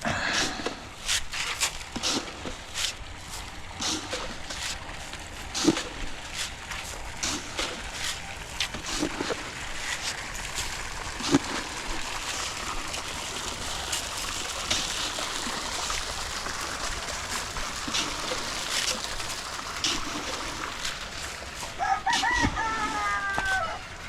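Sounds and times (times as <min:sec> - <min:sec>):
water running from a hose: 0:00.0 - 0:24.0.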